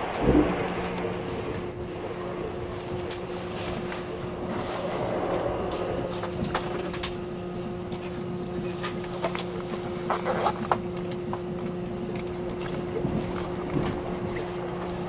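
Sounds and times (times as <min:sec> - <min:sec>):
train cabin hum with held tones: 0:00.0 - 0:15.0.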